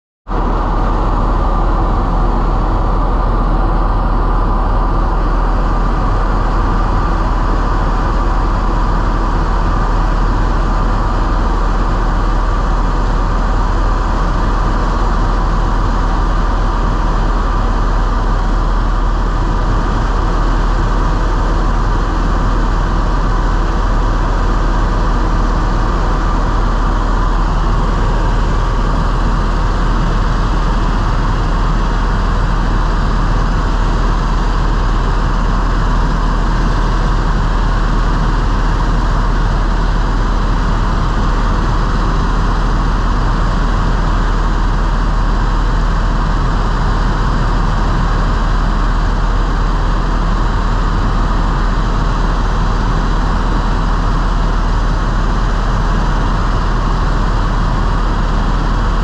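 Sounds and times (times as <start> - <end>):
helicopter engine and rotor drone: 0.3 - 59.0.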